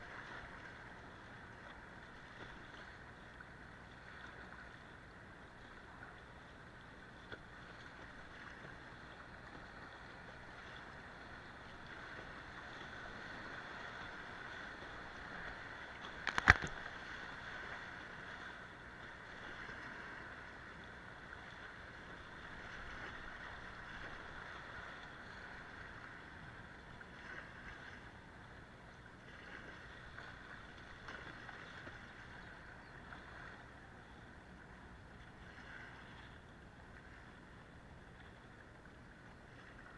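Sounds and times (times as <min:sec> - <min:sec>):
river water rushing and splashing: 0:00.0 - 0:37.6.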